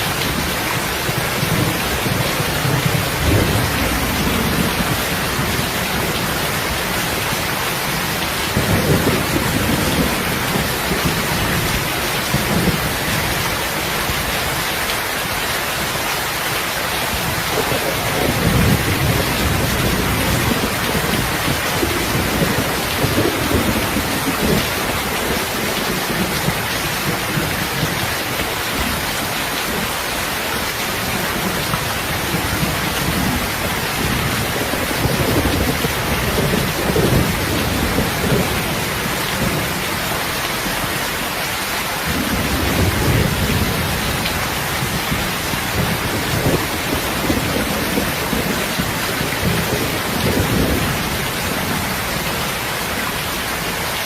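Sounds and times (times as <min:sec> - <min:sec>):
loud rain: 0:00.0 - 0:54.0.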